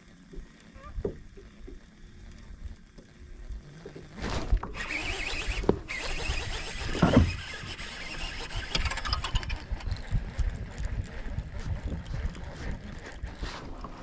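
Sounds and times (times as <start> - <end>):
fishing reel whirring and clicking: 0.2 - 14.0.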